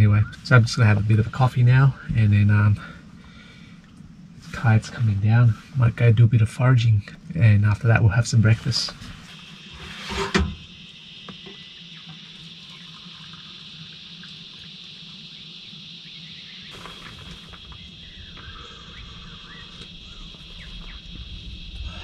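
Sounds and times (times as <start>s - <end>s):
faint bird calls: 0.0s - 5.7s, 8.7s - 22.0s
high-pitched insect chorus: 0.0s - 22.0s.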